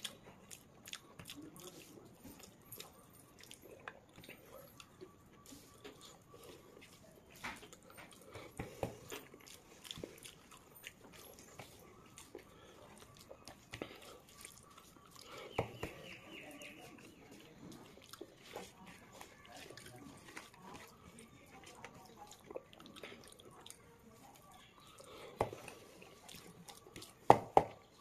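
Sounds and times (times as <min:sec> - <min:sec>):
chewing with wet smacks: 0:00.0 - 0:28.0
fingers squishing rice: 0:00.0 - 0:28.0.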